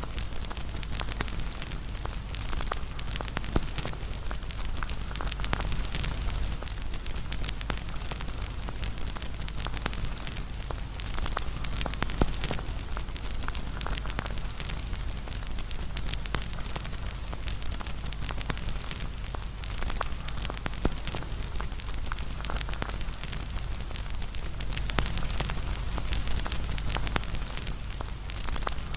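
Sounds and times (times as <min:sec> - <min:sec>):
crackling fire: 0:00.0 - 0:28.9.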